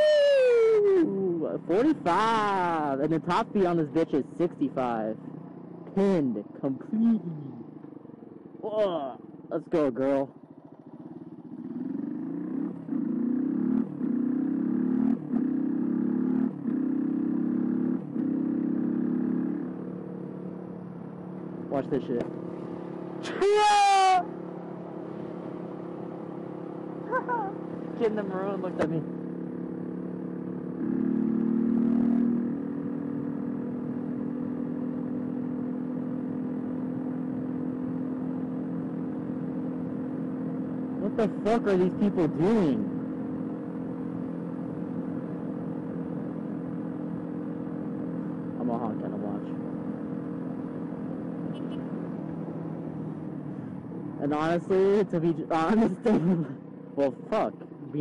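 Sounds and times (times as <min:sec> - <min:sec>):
motorcycle engine at full throttle: 0:00.0 - 0:58.0.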